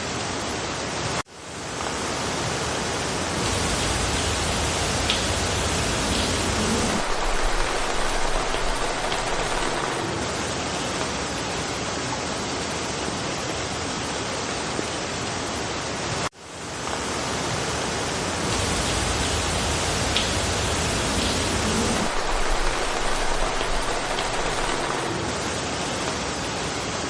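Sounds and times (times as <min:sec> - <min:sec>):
rain falling in forest: 0:00.0 - 0:27.0.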